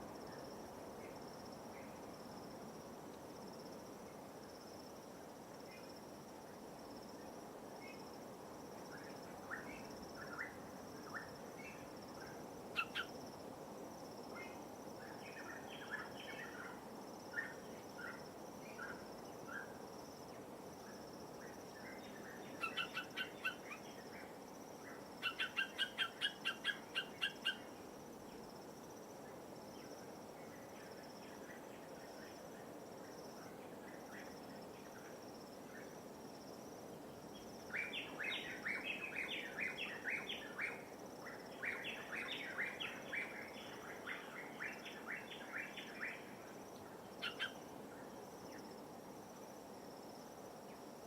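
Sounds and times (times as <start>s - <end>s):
high insect drone: 0.0s - 51.0s.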